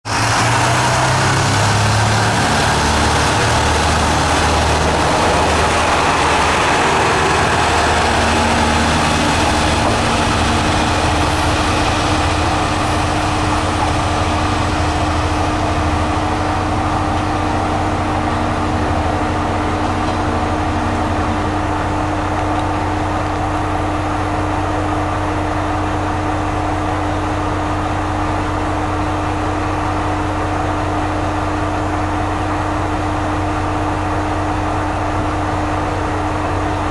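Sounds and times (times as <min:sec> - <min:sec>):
diesel railcar running on track: 0:00.0 - 0:36.9
steady engine hum: 0:00.1 - 0:36.9.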